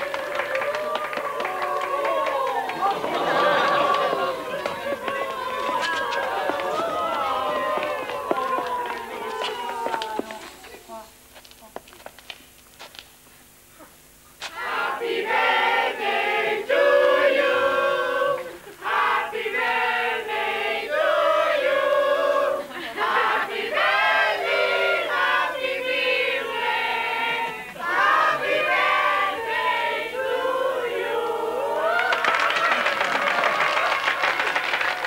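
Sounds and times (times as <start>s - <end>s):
mixed choir singing: 0.0s - 10.2s, 14.4s - 32.4s.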